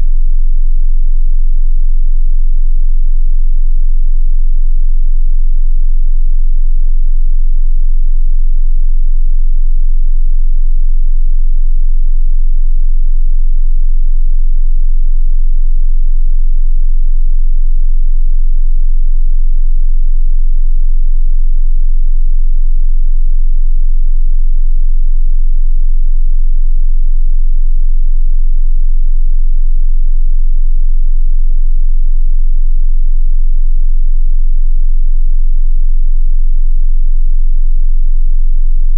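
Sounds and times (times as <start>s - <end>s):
deep bass sine tone: 0.0s - 38.9s.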